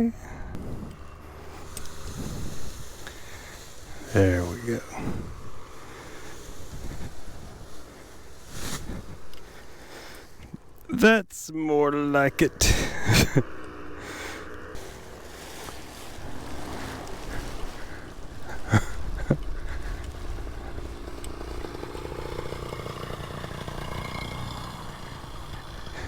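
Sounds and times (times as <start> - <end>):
paramotor engine running: 0.0 - 26.0.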